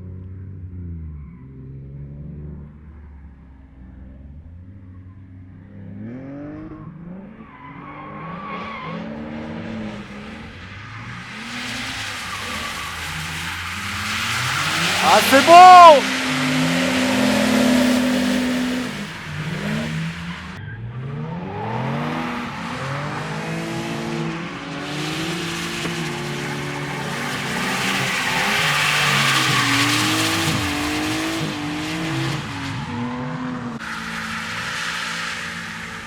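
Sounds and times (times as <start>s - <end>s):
car engine revving: 1.2s - 36.0s.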